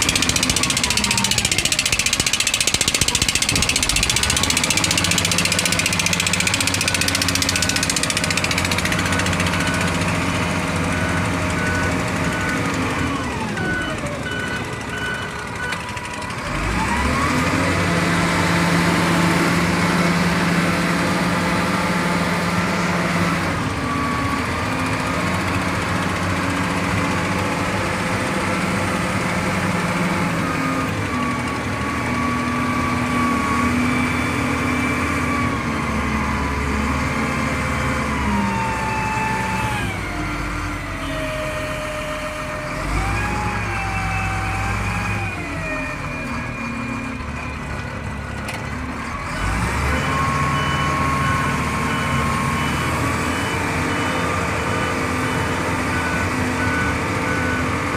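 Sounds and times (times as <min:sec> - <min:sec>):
diesel engine under load: 0:00.0 - 0:57.9.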